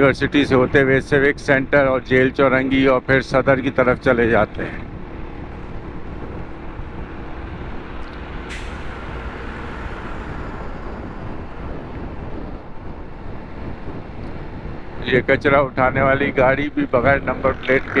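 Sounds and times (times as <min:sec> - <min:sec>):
traffic rumble: 0:00.0 - 0:18.0
tyre and wind noise: 0:00.0 - 0:18.0
dump truck passing: 0:01.9 - 0:15.0, 0:15.9 - 0:18.0.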